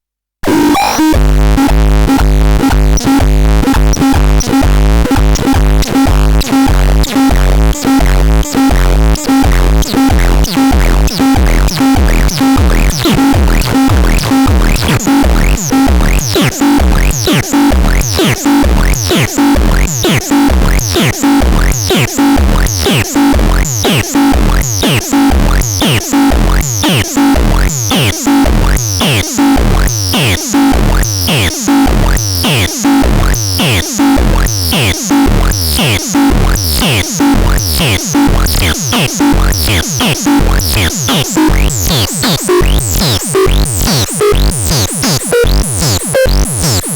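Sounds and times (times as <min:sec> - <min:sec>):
synthesizer electronic pattern: 0:00.4 - 0:46.9.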